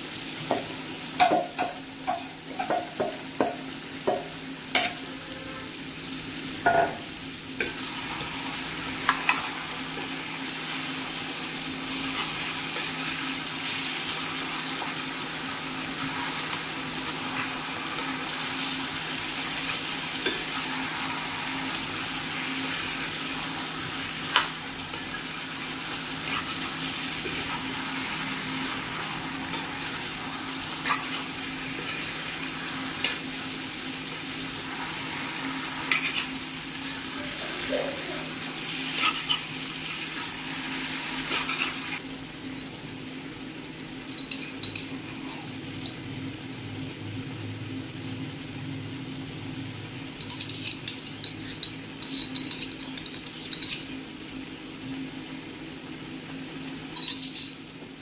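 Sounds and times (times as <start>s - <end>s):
meat and onions sizzling: 0.0s - 58.0s.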